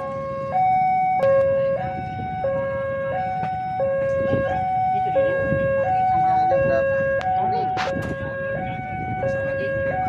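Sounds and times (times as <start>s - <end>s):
two-tone level crossing alarm: 0.0s - 10.0s.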